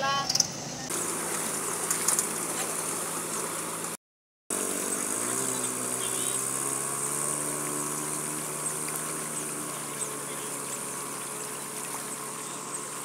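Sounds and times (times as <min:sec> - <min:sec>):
small motorcycle engine: 0:00.4 - 0:13.0.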